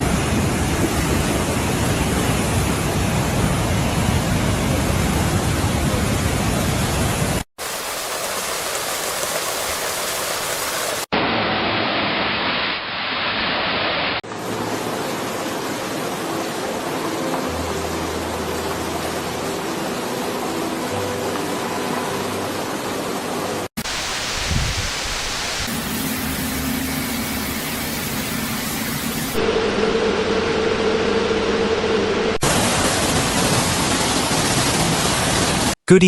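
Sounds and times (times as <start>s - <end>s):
rushing floodwater: 0.0s - 12.6s, 13.7s - 29.4s, 32.4s - 36.0s.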